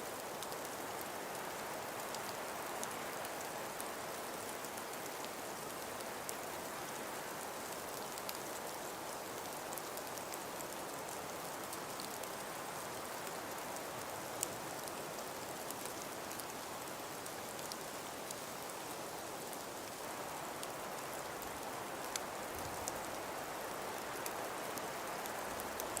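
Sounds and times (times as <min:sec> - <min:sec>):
wind-driven snowfall hiss: 0:00.0 - 0:26.0.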